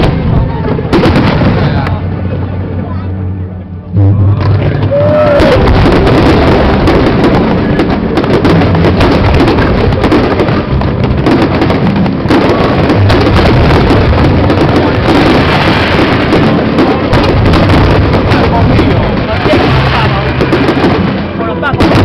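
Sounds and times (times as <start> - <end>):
fireworks bangs and crackles: 0.0 - 3.2, 4.0 - 22.0.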